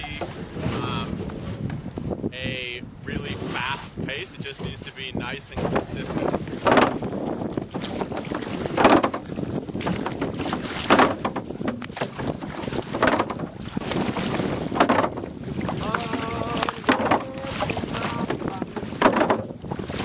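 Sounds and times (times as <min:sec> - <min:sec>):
paddles splashing in water: 0:00.0 - 0:02.1, 0:03.2 - 0:20.0
wind buffeting microphone: 0:00.0 - 0:20.0.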